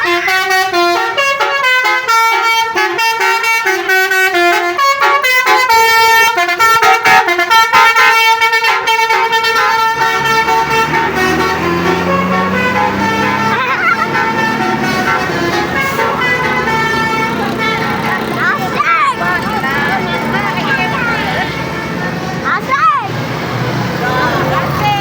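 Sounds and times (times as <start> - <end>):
bus horn playing a tune: 0.0 - 25.0.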